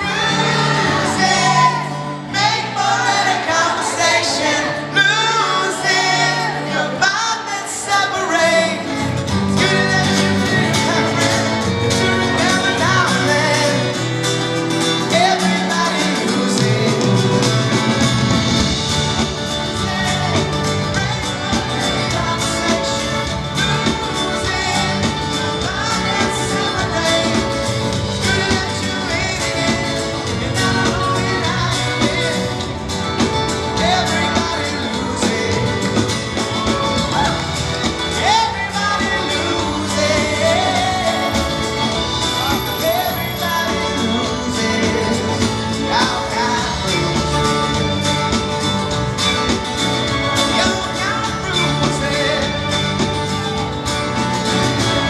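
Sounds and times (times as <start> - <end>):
live pop-rock band playing: 0.0 - 55.0
person singing: 0.0 - 55.0.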